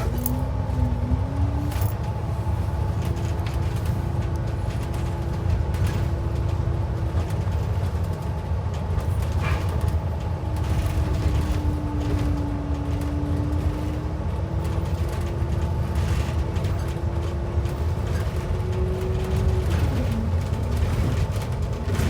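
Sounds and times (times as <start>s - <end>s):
bus drivetrain rumble and whine: 0.0s - 22.0s.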